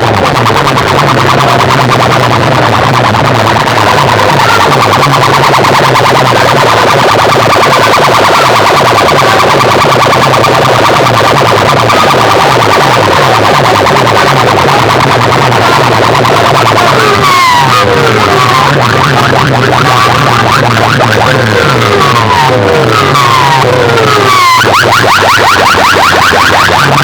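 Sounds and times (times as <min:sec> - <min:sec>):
loud distorted electronic music: 0:00.0 - 0:27.0
pulsing siren-like synth tone: 0:00.0 - 0:27.0
stepping bass line: 0:00.0 - 0:27.0.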